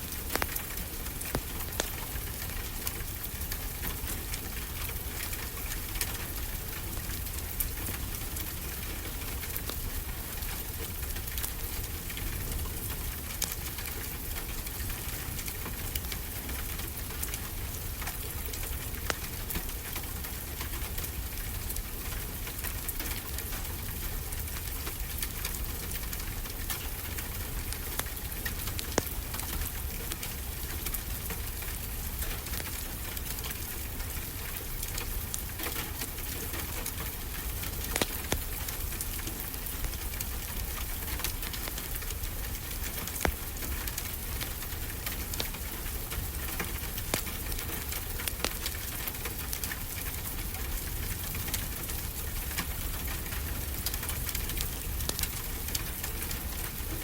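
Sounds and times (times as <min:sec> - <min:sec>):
wood fire crackling and snapping: 0:00.0 - 0:57.0.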